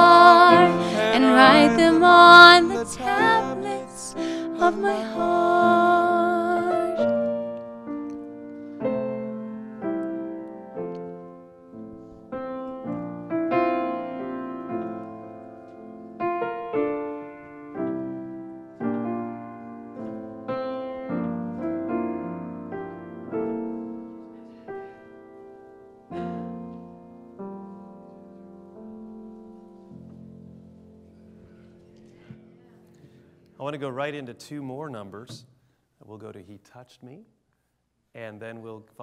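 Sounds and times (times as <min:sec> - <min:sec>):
piano playing slow chords: 0:00.0 - 0:33.7.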